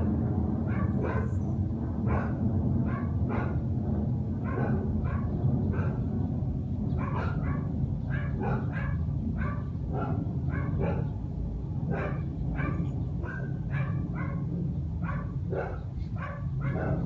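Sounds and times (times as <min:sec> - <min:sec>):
steady low rumble: 0:00.0 - 0:17.0
dogs barking: 0:00.7 - 0:01.4, 0:02.0 - 0:03.7, 0:04.4 - 0:06.2, 0:06.9 - 0:17.0.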